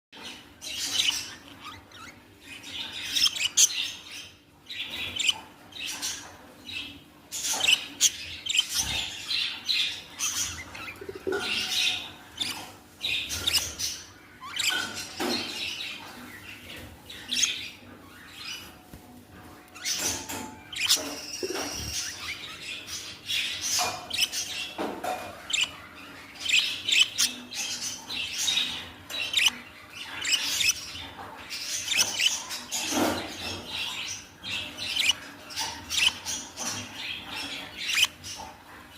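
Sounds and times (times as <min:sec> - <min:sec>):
budgies chirping and chattering: 0:00.2 - 0:38.9.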